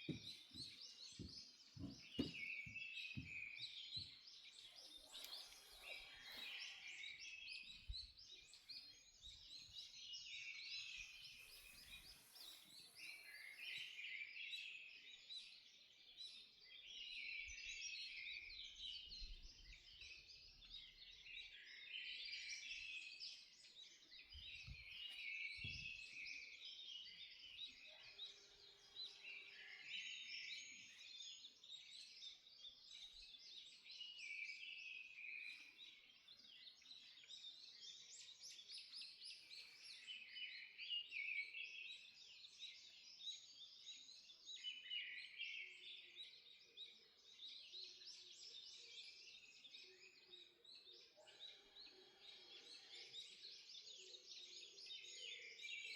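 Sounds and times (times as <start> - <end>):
faint songbirds chirping and trilling: 0.0 - 55.9.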